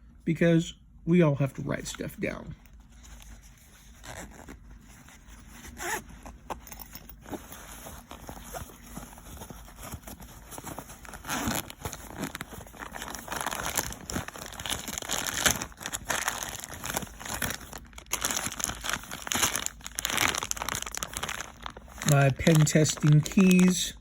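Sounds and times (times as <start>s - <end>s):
rummaging through a bag: 2.6s - 24.0s.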